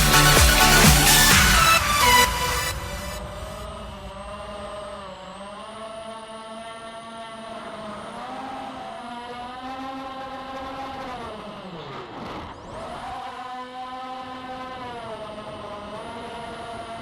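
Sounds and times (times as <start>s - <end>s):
quadcopter motors whining: 1.1s - 17.0s.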